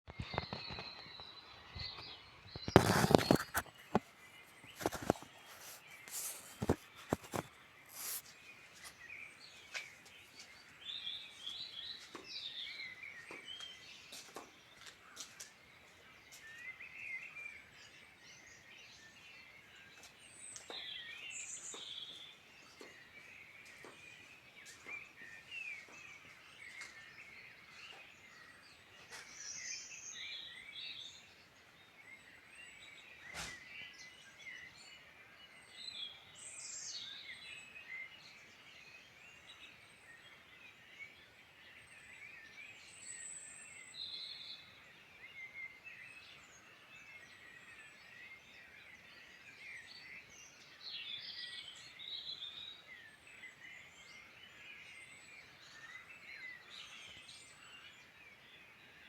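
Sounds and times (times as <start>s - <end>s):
birds singing and chirping: 0.1s - 59.0s.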